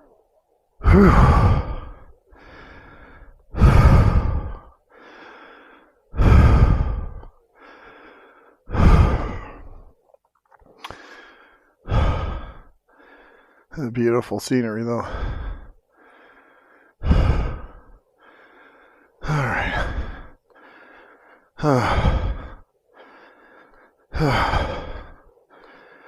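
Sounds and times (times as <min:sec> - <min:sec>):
man breathing heavily: 0:00.8 - 0:13.8, 0:14.9 - 0:26.0.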